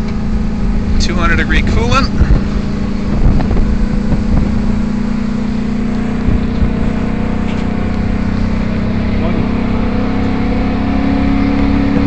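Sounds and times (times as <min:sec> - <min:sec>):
truck engine droning under load: 0:00.0 - 0:12.0.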